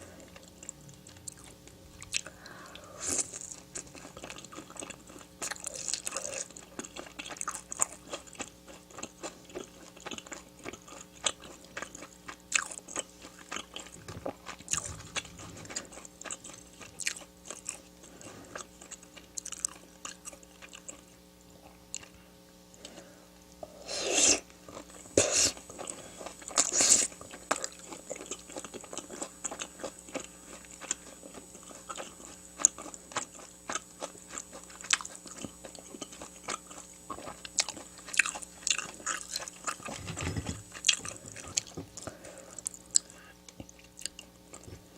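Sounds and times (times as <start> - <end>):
chewing crisp food: 0.0 - 23.1, 24.2 - 44.9
faint steady hum: 0.0 - 44.9.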